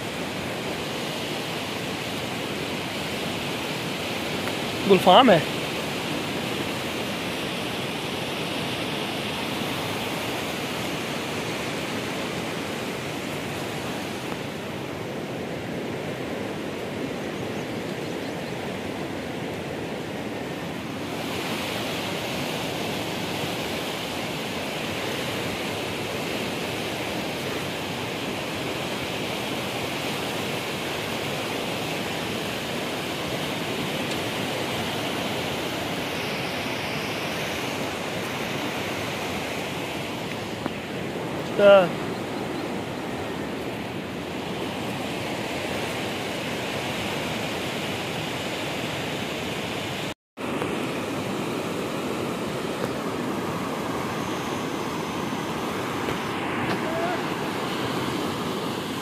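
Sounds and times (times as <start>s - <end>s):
muddy water rushing: 0.0s - 59.0s.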